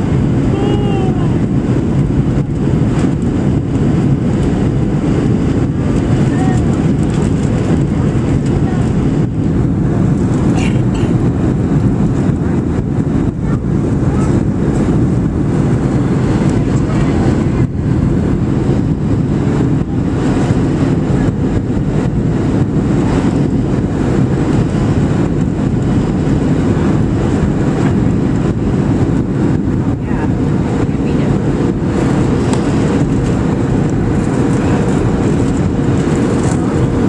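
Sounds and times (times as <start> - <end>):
engine and airflow rumble: 0.0 - 37.0.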